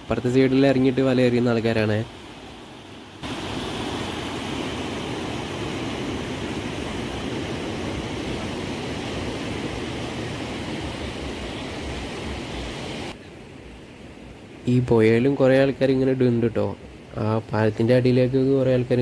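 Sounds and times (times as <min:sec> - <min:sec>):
surf and churning water: 0:00.0 - 0:19.0.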